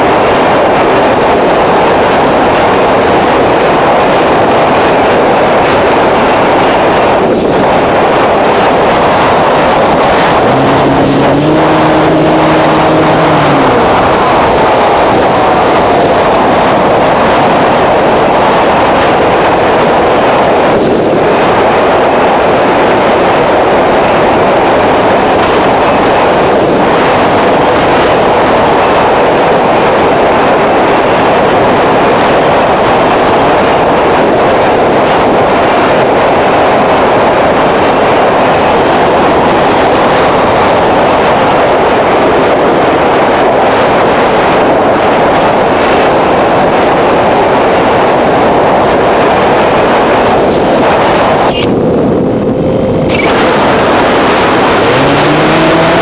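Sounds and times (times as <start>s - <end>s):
wind rushing over aircraft: 0.0s - 56.0s.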